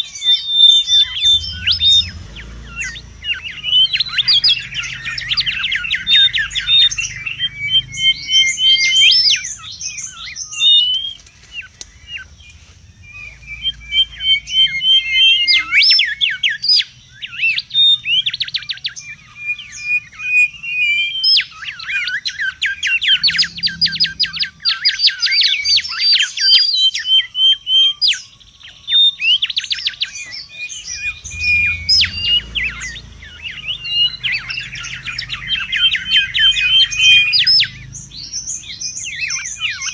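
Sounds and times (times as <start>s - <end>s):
bird calling and whistling: 0.0s - 39.9s.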